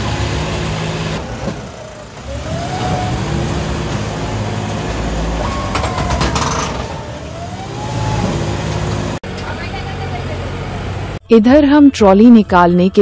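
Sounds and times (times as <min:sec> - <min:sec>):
tractor diesel engine revving: 0:00.0 - 0:11.2.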